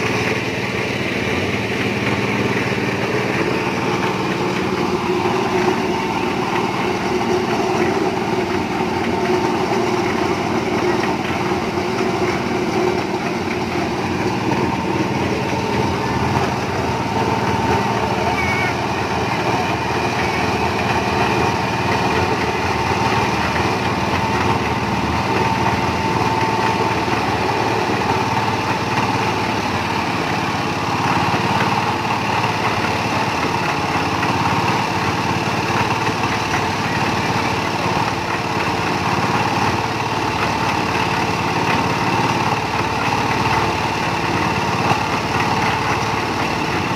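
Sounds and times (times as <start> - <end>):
concrete mixer engine running: 0.0 - 46.9.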